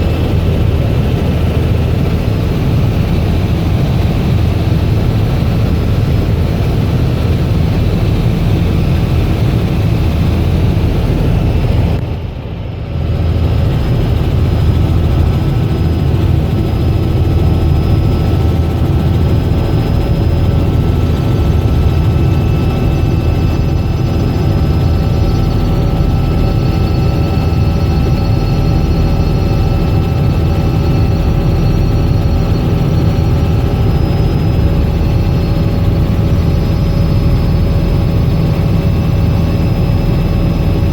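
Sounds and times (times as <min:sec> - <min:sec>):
helicopter rotor drone: 0:00.0 - 0:40.9.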